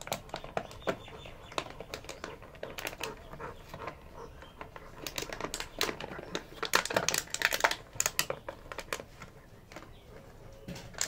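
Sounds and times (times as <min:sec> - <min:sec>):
dogs play-biting: 0:00.0 - 0:11.0.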